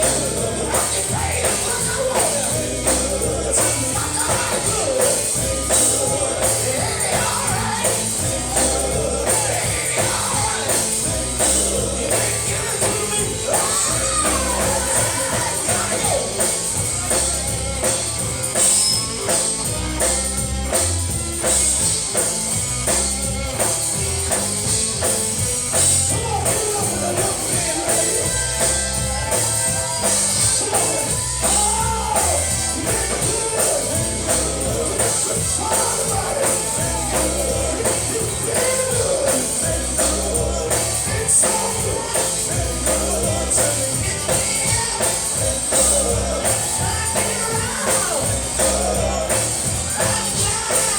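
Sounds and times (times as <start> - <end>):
people singing gospel: 0.0 - 17.7, 25.7 - 50.9
band playing: 0.0 - 50.9
tambourine beat: 0.0 - 50.9.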